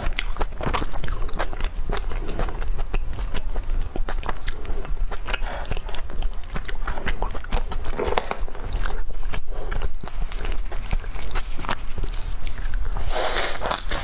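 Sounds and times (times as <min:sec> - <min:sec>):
woman chewing with mouth clicks: 0:00.0 - 0:14.0.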